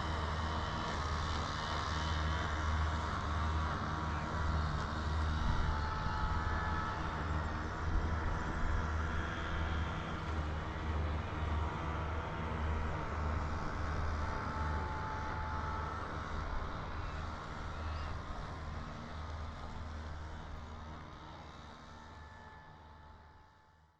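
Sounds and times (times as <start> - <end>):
bike road noise: 0.0 - 23.5.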